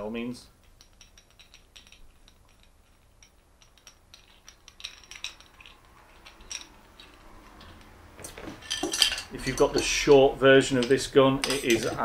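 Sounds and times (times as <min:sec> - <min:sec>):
metal parts clicking and tapping: 0:00.0 - 0:12.0.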